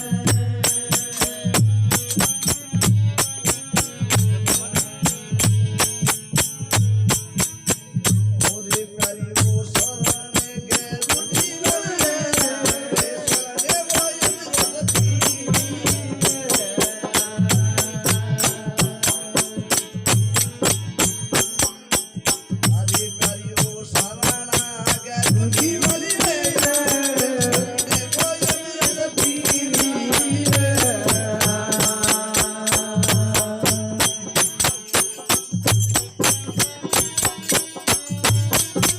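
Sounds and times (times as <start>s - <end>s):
low drum beats: 0.0s - 38.9s
small cymbals jingling: 0.0s - 38.9s.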